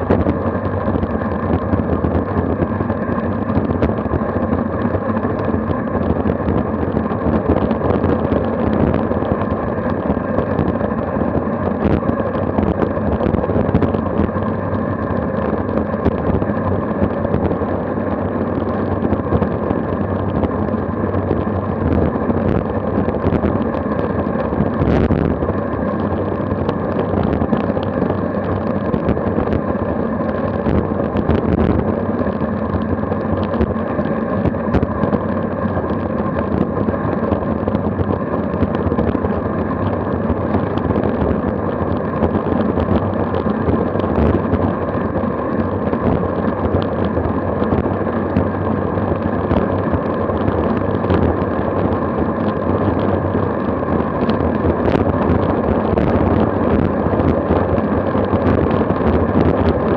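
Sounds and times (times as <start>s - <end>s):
tyre and road rumble: 0.0s - 59.9s
wind buffeting microphone: 0.0s - 59.9s.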